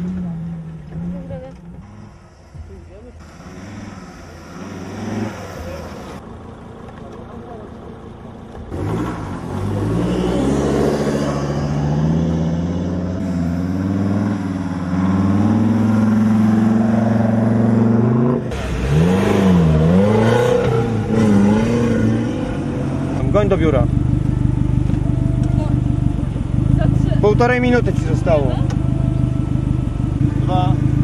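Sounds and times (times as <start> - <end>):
off-road vehicle engine revving: 0.0 - 6.3, 6.9 - 31.0.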